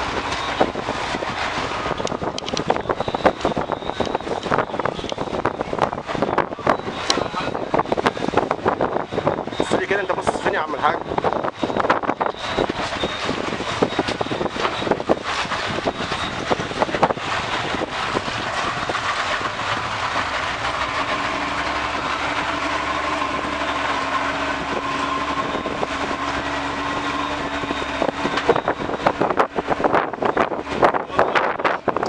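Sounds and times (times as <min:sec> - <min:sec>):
boat engine running: 0:00.0 - 0:32.0
wind buffeting microphone: 0:00.0 - 0:32.0.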